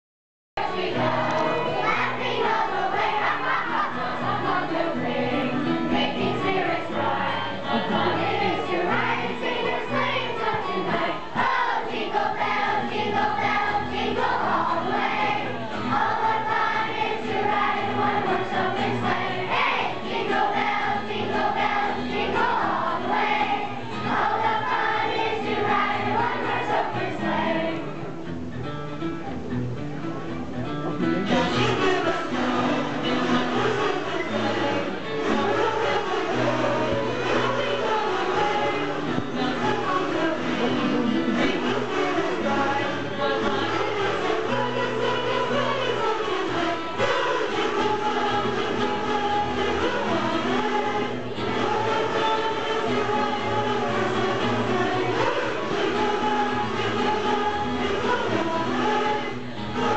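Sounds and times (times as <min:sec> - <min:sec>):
children's choir singing: 0:00.6 - 0:28.2, 0:31.2 - 0:59.9.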